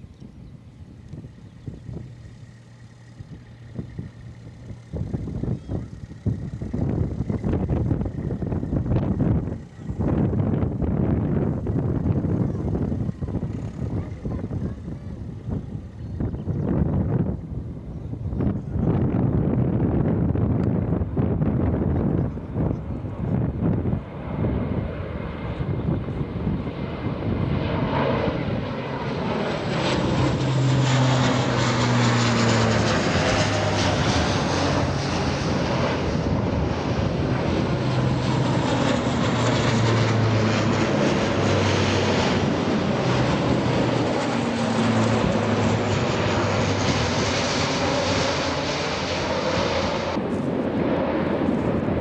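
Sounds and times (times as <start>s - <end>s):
military aircraft flying overhead: 0.0s - 52.0s.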